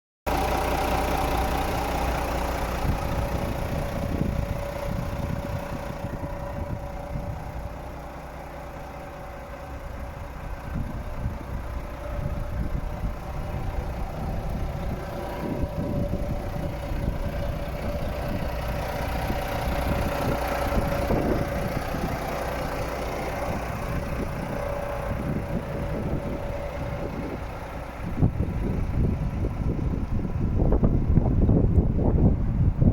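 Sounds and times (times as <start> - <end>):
truck diesel engine idling: 0.3 - 32.9.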